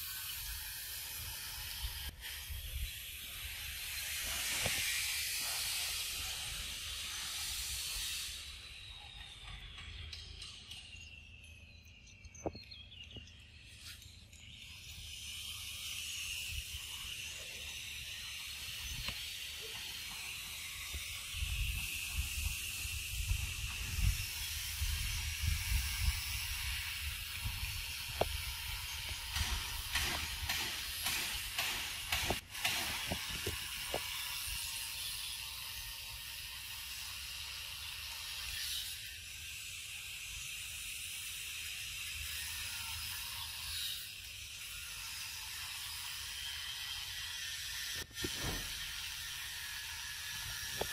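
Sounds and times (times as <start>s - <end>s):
insect chorus hissing: 0.0s - 9.3s, 13.8s - 50.9s.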